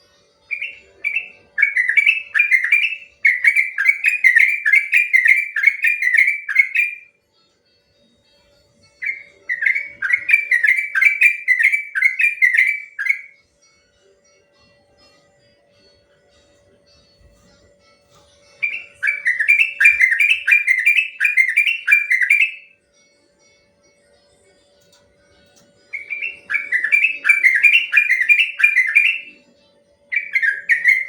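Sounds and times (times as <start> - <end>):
bulbul singing: 0.4 - 7.1, 8.0 - 13.4, 16.3 - 23.6, 24.4 - 31.0.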